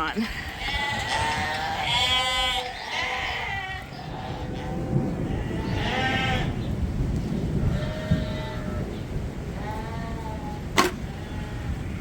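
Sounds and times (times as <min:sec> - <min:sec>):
lambs bleating: 0:00.2 - 0:06.6, 0:07.7 - 0:08.8, 0:09.6 - 0:12.0.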